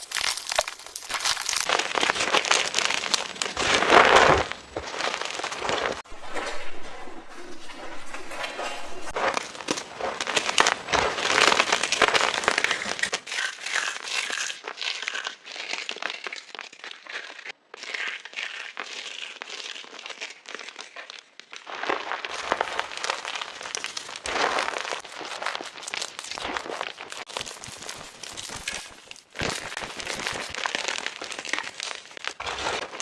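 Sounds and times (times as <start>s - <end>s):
chalk blocks being crushed: 0.0s - 6.0s, 9.2s - 33.0s.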